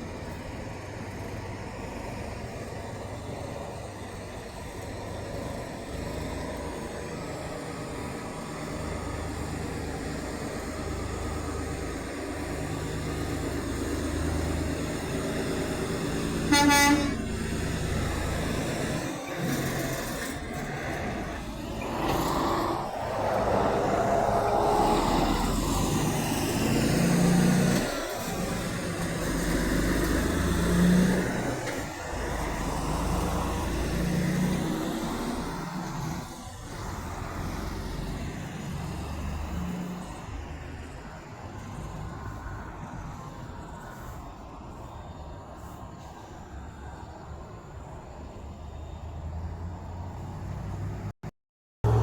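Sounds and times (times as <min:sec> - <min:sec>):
diesel truck engines rumbling: 0:00.0 - 0:51.2.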